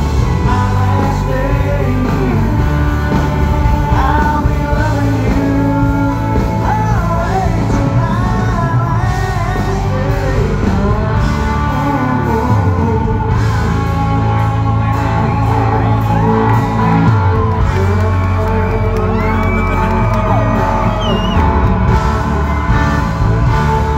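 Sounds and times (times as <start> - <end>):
country rock band playing: 0.0 - 23.9
man singing lead vocal: 0.0 - 23.9.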